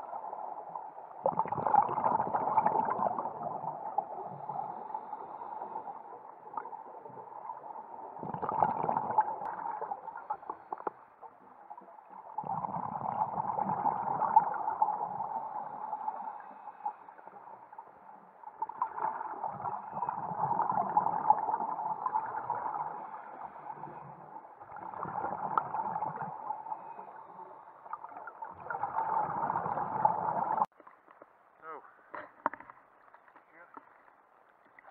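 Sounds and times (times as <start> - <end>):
muffled underwater gurgling: 0.0 - 30.7.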